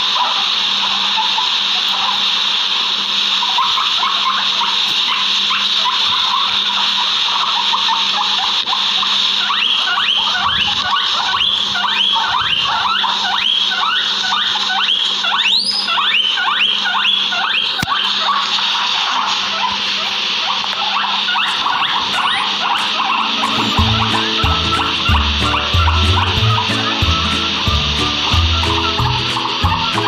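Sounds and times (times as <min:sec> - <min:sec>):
guinea pigs wheeking: 0:00.0 - 0:30.0
steady high hiss: 0:00.0 - 0:30.0.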